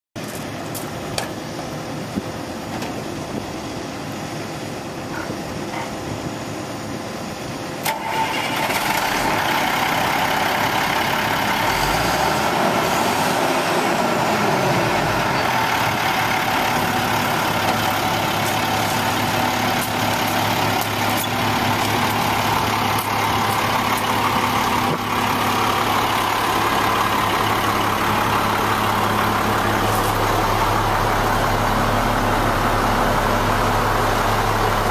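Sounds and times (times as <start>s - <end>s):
diesel engine starting and idling: 0.2s - 34.9s.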